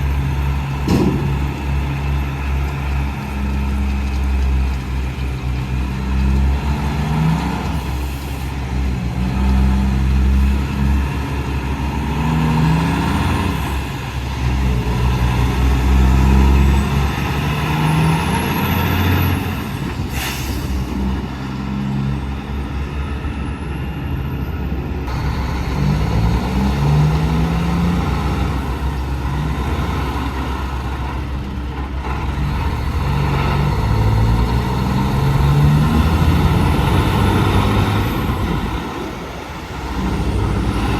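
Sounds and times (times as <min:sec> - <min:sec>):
diesel truck engine rumble: 0:00.0 - 0:40.9.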